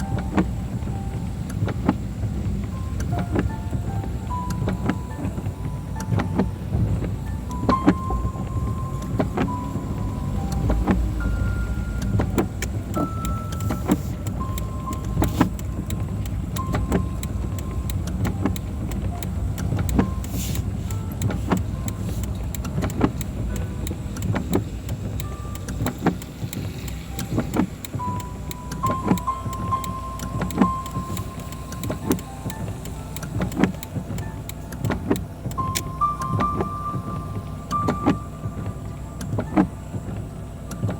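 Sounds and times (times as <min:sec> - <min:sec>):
engine and tyres rumbling: 0:00.0 - 0:40.9
raindrops ticking on windscreen: 0:00.0 - 0:40.9.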